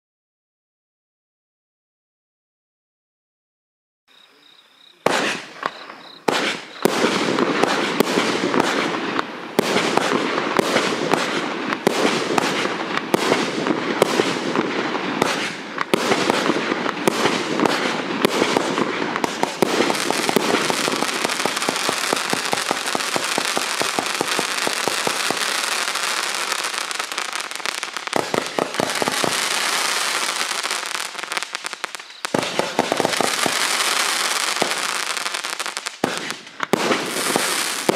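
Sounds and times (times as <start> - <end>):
firework cake firing: 5.1 - 37.9.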